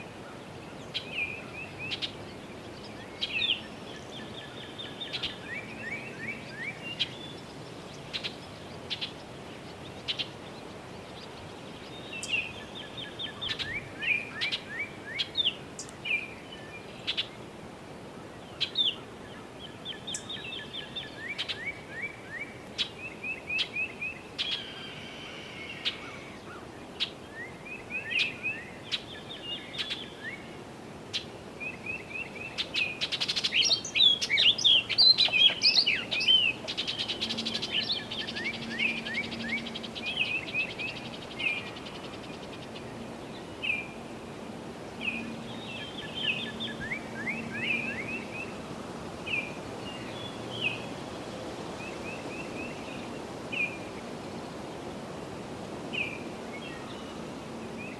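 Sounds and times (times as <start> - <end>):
songbirds singing: 0.0 - 17.5, 18.2 - 57.9.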